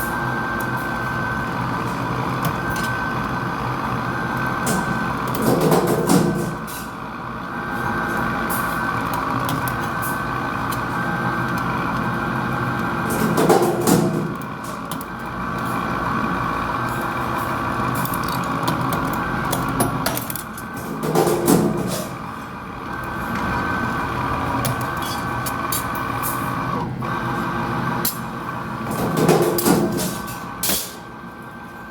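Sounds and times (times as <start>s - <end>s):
hydraulic press droning: 0.0s - 31.2s.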